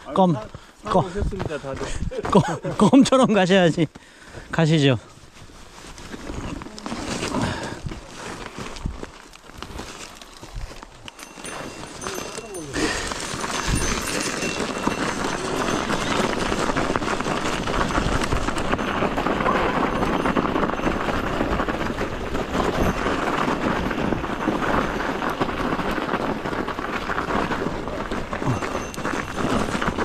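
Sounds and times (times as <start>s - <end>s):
bike tyres crunching on snow: 0.0s - 30.0s.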